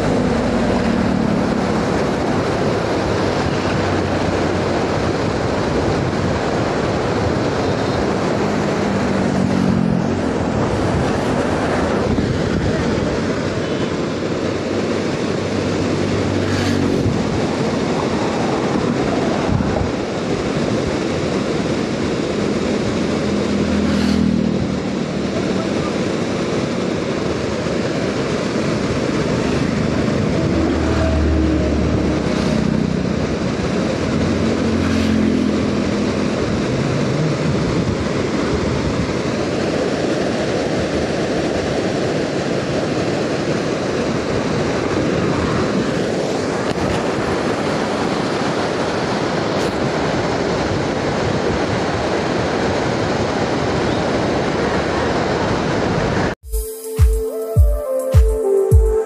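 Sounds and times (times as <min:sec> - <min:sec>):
water rushing over weir: 0:00.0 - 0:56.4.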